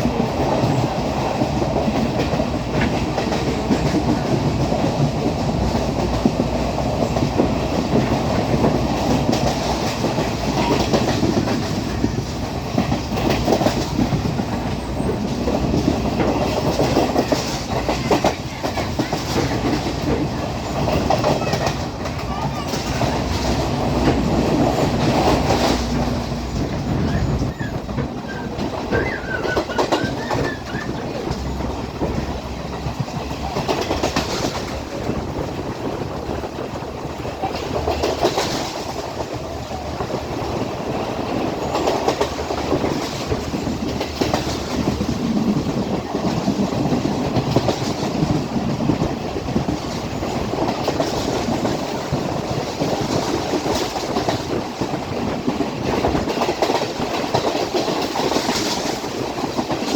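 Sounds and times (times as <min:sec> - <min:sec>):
diesel train rumbling: 0:00.0 - 0:59.9
wheels clattering over rail joints: 0:00.0 - 0:59.9.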